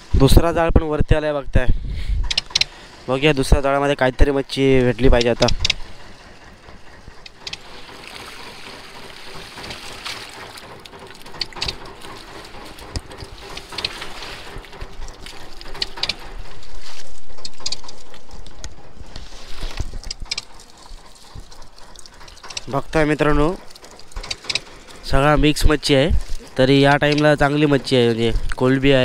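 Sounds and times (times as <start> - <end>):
water rushing: 2.3 - 29.0
water splashing and dripping: 2.3 - 29.0.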